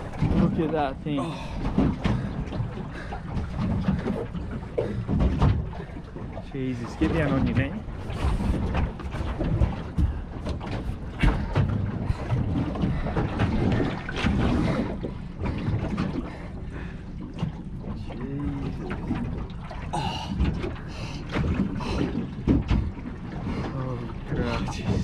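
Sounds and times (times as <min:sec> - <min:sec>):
wind rumble: 0:00.0 - 0:23.4
water around boat: 0:00.0 - 0:25.0.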